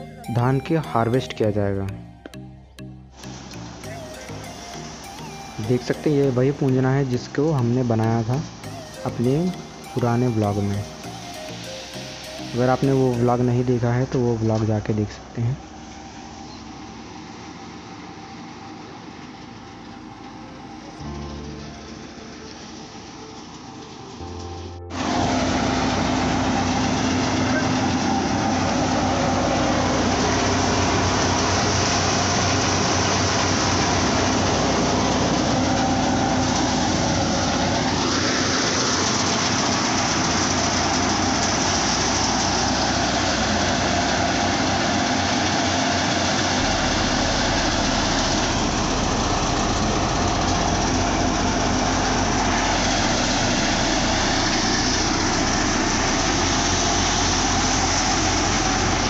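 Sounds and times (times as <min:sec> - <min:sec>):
thresher machine drone: 0:00.0 - 0:59.0.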